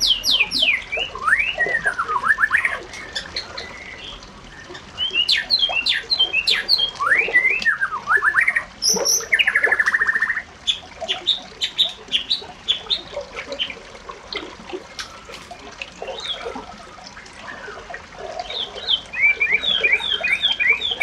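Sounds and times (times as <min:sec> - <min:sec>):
birds chirping: 0:00.0 - 0:14.1, 0:14.9 - 0:21.0.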